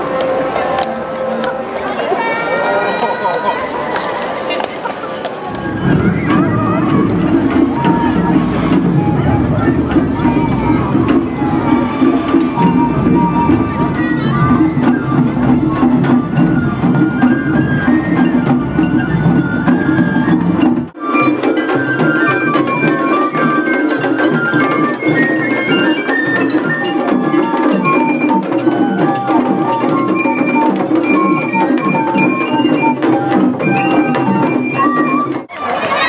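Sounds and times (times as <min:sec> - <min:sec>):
bamboo flute melody: 0:00.0 - 0:36.0
drums and light percussion: 0:00.0 - 0:36.0.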